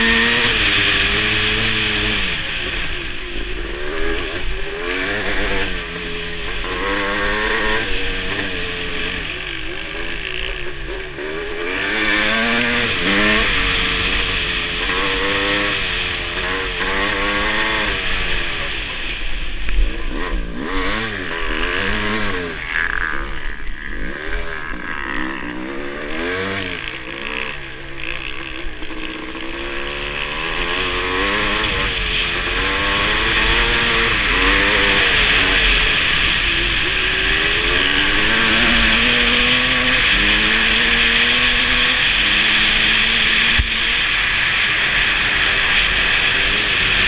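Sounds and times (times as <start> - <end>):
motocross engine revving: 0.0 - 47.0.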